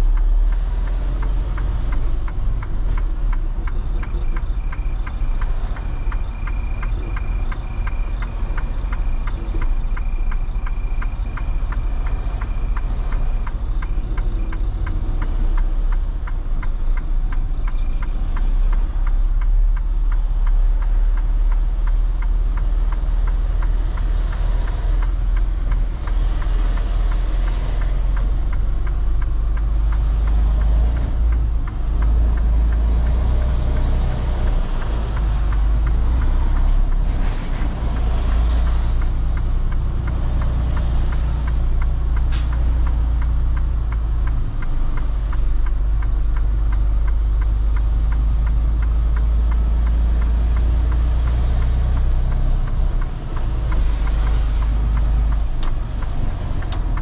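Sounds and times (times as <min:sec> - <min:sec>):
diesel truck engine rumbling: 0:00.0 - 0:57.0
road and cab noise: 0:00.0 - 0:57.0.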